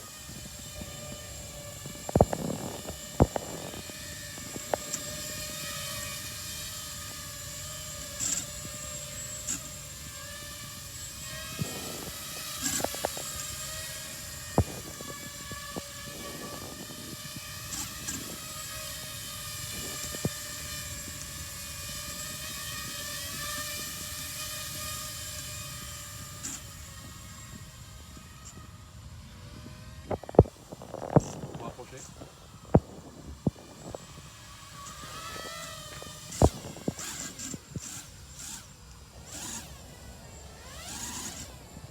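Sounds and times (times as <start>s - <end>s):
drone propellers whirring: 0.0s - 41.9s.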